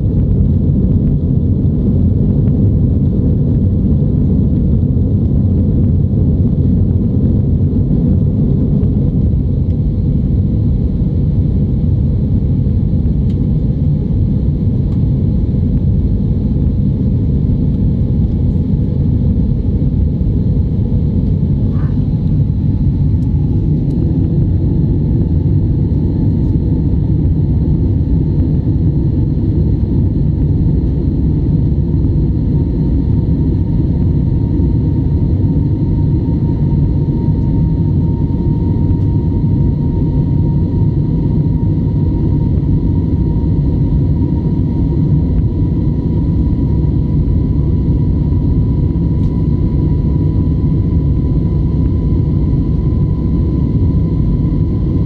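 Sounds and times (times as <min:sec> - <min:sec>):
faint whine: 0:00.0 - 0:55.0
jet engine and airflow rumble: 0:00.0 - 0:55.0.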